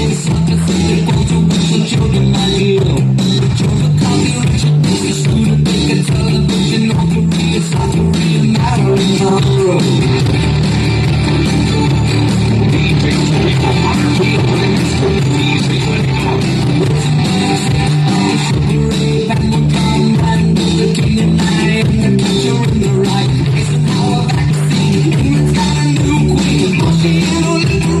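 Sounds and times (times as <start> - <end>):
person singing: 0.0 - 28.0
remixed dance music: 0.0 - 28.0.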